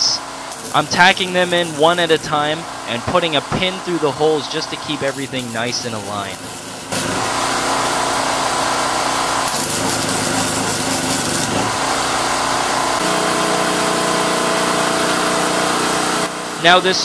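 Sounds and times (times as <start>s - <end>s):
steady hum: 0.0s - 17.0s
welder arc crackling: 0.0s - 17.0s.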